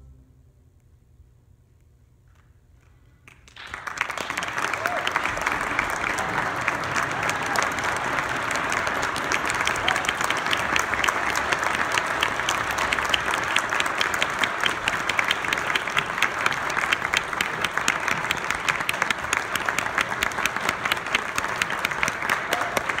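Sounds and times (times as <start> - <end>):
audience applauding: 3.2 - 23.0.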